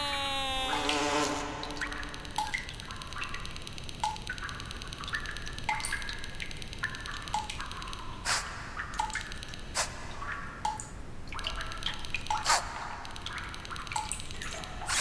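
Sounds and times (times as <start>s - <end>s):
water dripping into bathtub: 1.7s - 15.0s.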